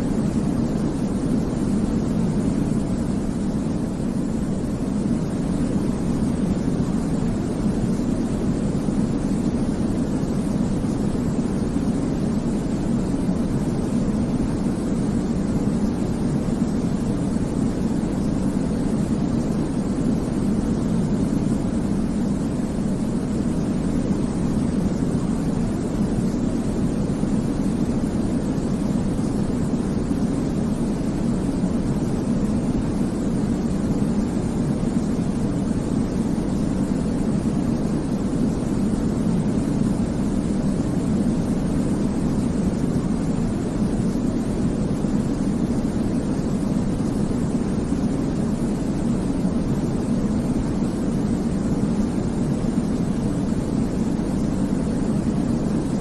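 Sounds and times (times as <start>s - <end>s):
deep white noise hiss: 0.0s - 56.0s.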